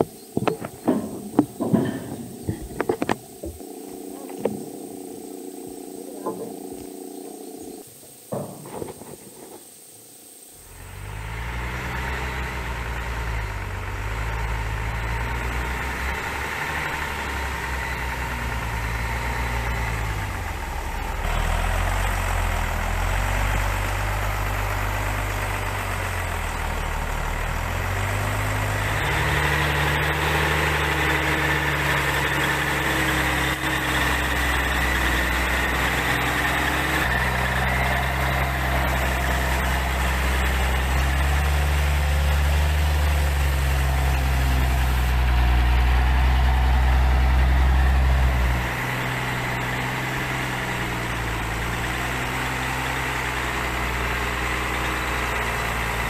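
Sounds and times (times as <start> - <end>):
truck engine running: 0.0 - 9.2, 10.5 - 56.0
steady whine: 0.0 - 56.0.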